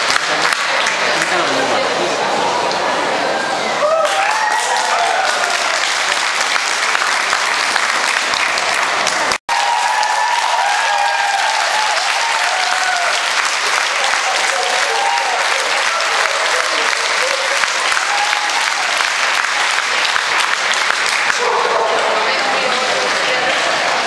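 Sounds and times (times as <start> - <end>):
audience applauding: 0.0 - 1.8, 3.8 - 24.0.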